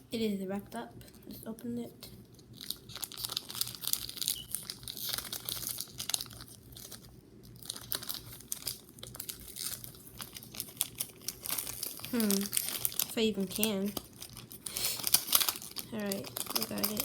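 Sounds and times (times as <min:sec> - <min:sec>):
plastic wrapping crinkling and tearing: 0:02.0 - 0:17.0.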